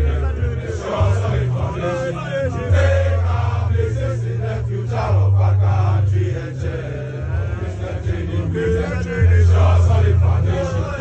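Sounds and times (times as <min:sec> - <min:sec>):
crowd chanting: 0:00.0 - 0:11.0
music with deep bass: 0:00.0 - 0:11.0.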